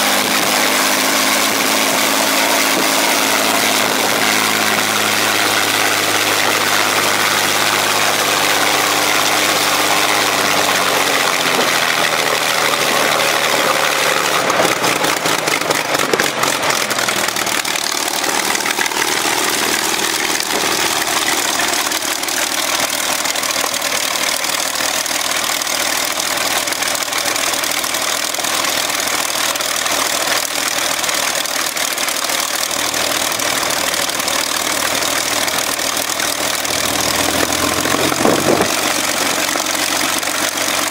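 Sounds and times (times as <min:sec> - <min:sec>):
aero engine running: 0:00.0 - 0:40.9.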